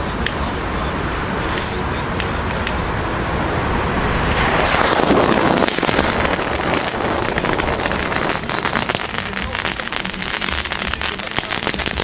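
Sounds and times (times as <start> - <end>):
firework fountain hissing: 1.1 - 12.0.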